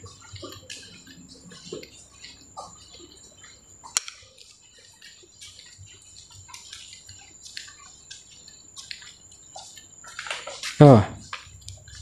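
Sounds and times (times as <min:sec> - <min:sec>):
footsteps on tiles: 0:00.0 - 0:12.0.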